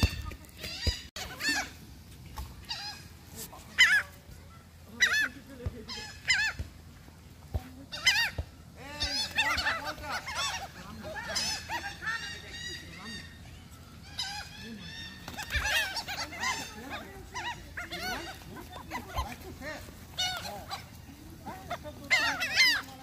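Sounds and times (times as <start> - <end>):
gulls calling: 0.0 - 23.0.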